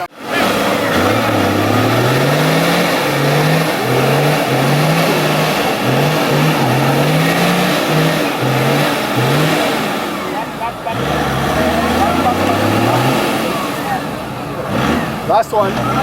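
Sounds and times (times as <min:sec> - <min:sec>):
engine revving hard: 0:00.0 - 0:16.0.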